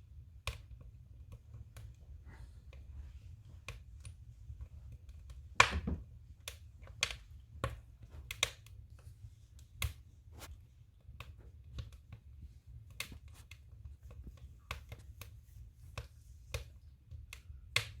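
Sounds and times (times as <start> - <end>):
firewood crackling and popping: 0.0 - 18.0.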